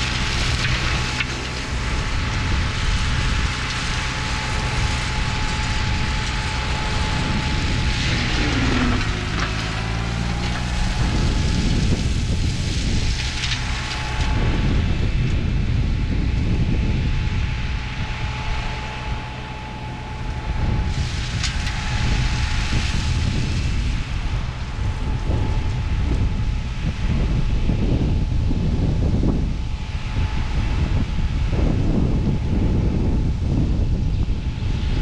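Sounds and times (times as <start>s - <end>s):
distant land-clearing machine drone: 0.0s - 35.0s
wind buffeting microphone: 0.0s - 35.0s.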